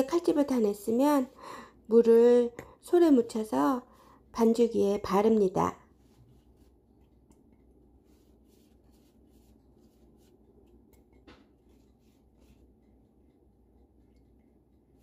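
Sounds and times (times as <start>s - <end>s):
low room hum: 0.0s - 15.0s
pastry brush dabbing dough: 0.0s - 15.0s.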